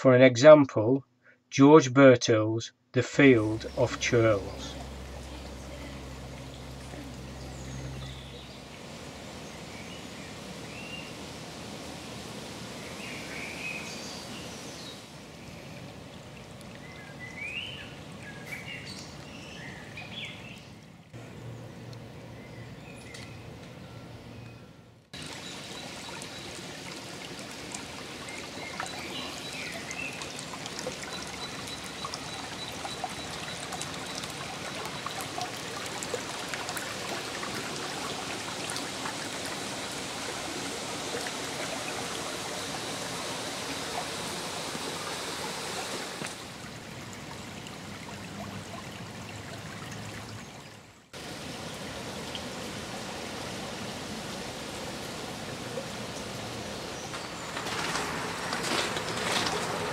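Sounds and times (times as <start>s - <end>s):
stream running over stones: 3.2s - 21.2s, 25.2s - 59.9s.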